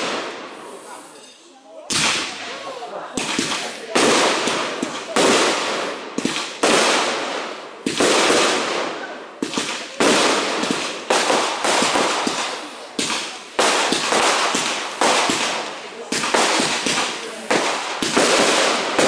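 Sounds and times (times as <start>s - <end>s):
fireworks bangs with crackle: 0.0s - 19.0s.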